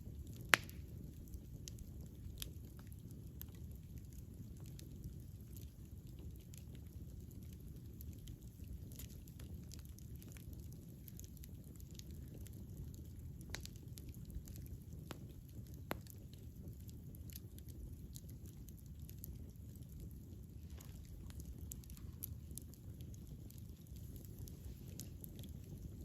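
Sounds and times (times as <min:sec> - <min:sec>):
campfire crackling and popping: 0:00.0 - 0:26.0
low rumble of campfire: 0:00.0 - 0:26.0.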